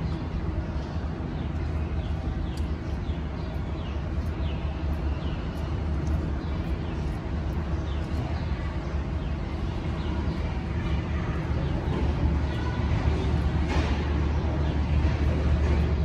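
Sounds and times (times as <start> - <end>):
bird chirping: 0.0 - 13.5
low background rumble: 0.0 - 16.0.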